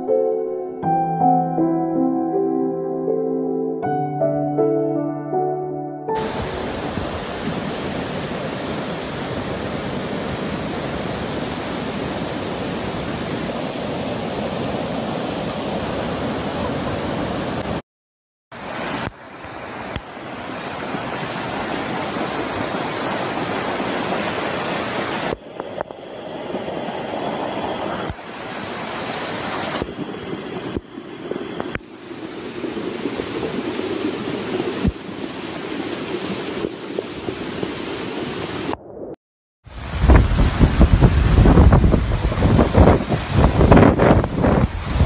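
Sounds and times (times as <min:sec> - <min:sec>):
floodwater rushing: 0:06.2 - 0:17.7, 0:18.6 - 0:38.8, 0:39.7 - 0:45.0.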